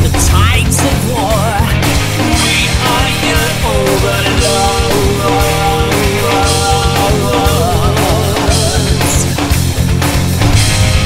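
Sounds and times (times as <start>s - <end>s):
person singing: 0.0s - 9.5s
drum beat: 0.0s - 11.0s
loud rock music: 0.0s - 11.0s.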